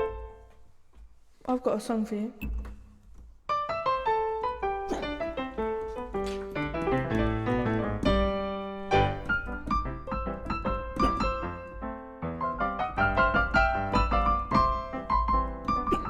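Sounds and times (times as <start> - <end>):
piano music: 0.0 - 0.6, 3.5 - 16.0.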